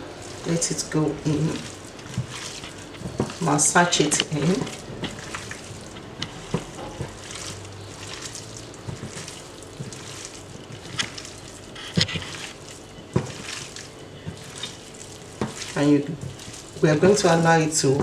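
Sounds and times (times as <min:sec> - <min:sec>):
hands squelching raw chicken: 0:00.0 - 0:17.5.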